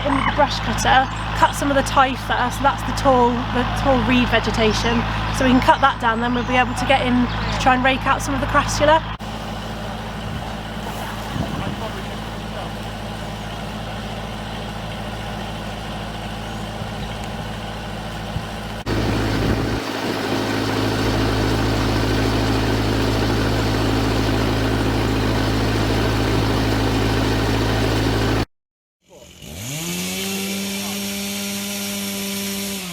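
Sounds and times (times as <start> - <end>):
water pump engine running: 0.0 - 28.5.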